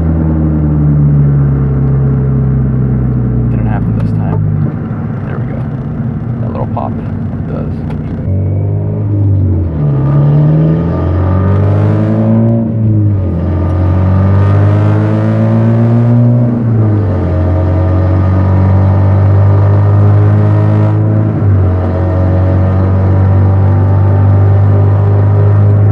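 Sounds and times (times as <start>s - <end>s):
loud car engine and exhaust: 0.0s - 25.9s.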